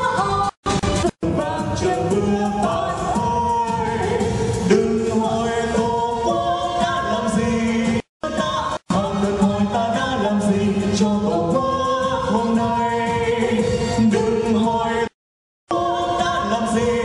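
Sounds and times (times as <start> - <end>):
man and woman singing a duet: 1.2 - 15.1, 15.7 - 17.0.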